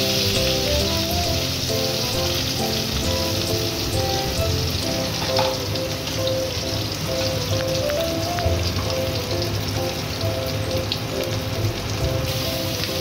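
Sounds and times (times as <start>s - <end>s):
background music: 0.0s - 13.0s
onion sizzling in oil: 0.0s - 13.0s.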